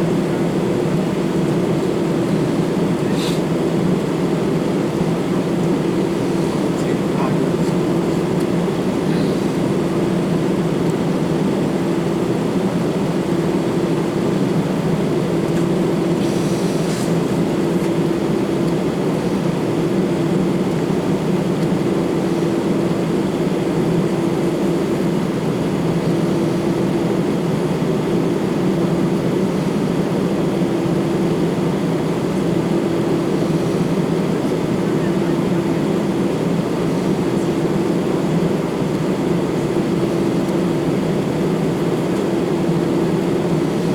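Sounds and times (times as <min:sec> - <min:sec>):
jet engines droning: 0:00.0 - 0:43.9.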